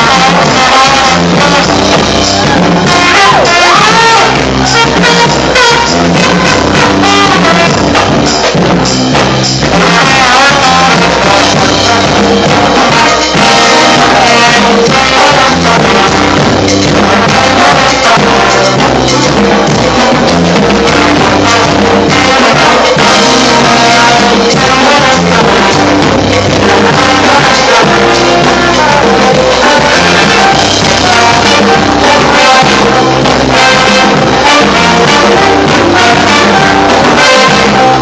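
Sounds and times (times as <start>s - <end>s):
brass band playing: 0.0s - 38.0s
drums and percussion: 0.0s - 38.0s.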